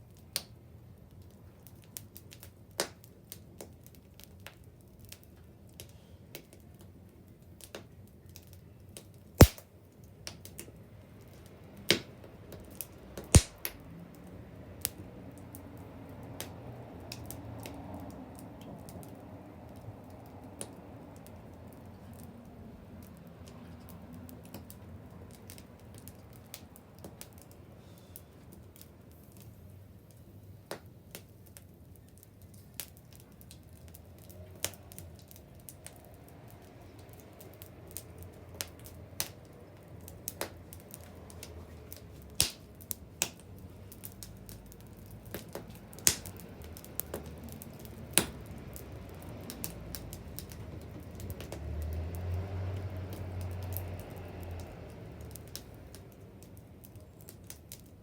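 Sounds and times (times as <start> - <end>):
wood fire crackling: 0.1 - 11.6, 12.4 - 58.0.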